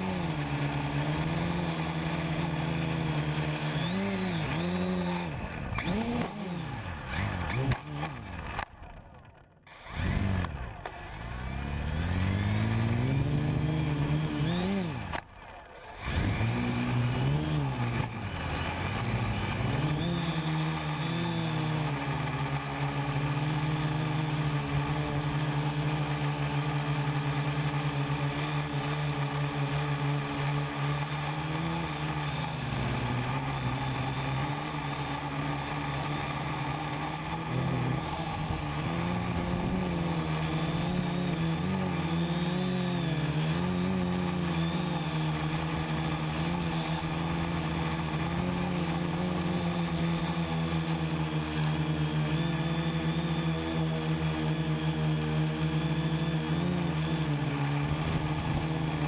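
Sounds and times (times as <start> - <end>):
quadcopter motors buzzing: 0.0 - 59.0.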